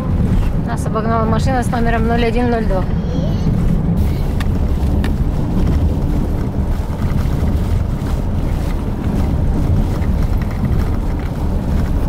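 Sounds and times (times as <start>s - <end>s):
road and wind noise in car: 0.0s - 12.0s.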